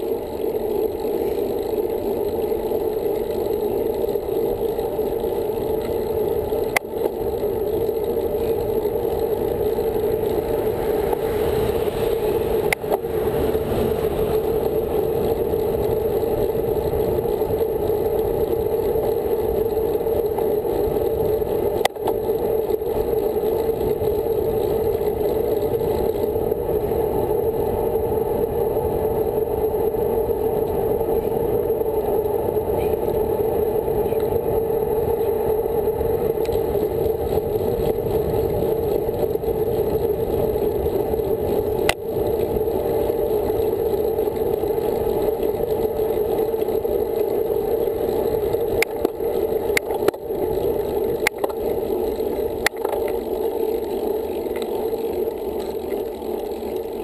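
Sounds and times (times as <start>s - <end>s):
wind and tyre noise: 0.0s - 57.0s.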